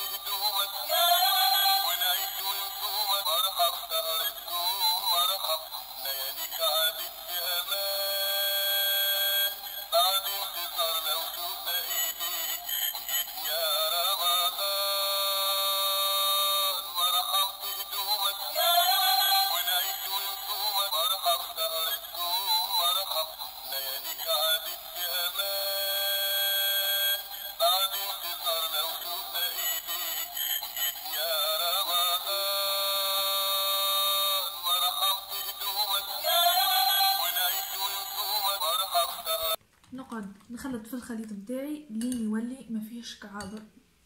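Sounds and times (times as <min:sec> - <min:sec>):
music with singing voice: 0:00.0 - 0:39.6.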